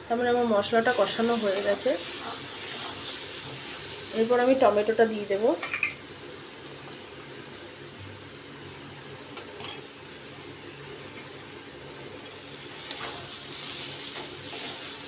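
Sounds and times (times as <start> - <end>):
spice paste sizzling: 0.0 - 11.2, 12.1 - 15.0.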